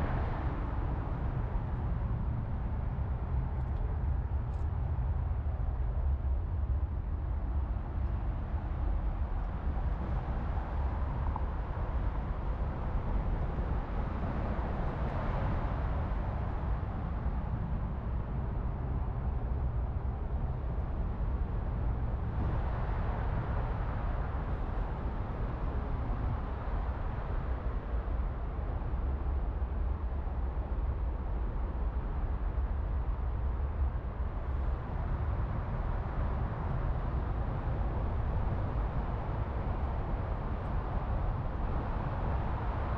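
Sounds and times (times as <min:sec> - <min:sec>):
car engine rumbling steadily: 0:00.0 - 0:42.9.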